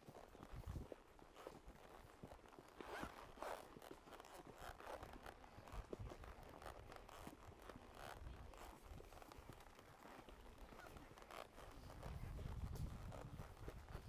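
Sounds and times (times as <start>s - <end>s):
horse hooves crunching on dirt: 0.0s - 14.0s.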